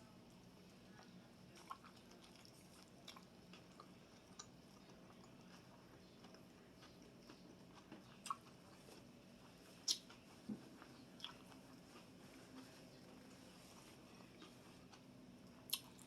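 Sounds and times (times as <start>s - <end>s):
chewing taco: 0.5s - 16.0s.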